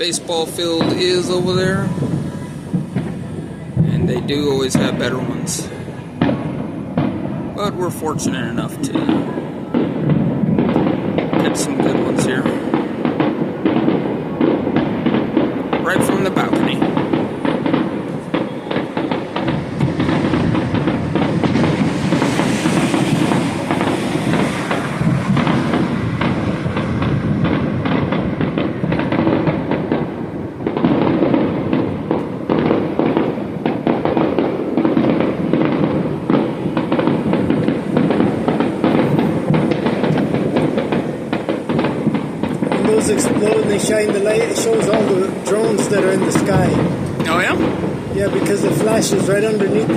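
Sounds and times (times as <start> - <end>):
fireworks popping and crackling: 0.0 - 49.9.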